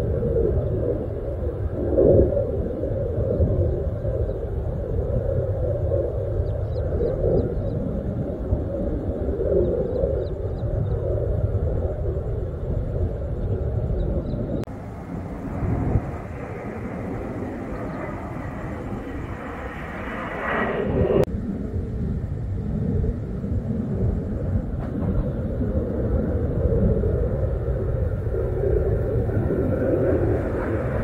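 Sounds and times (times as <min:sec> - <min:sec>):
jet engine rumble: 0:00.0 - 0:31.0.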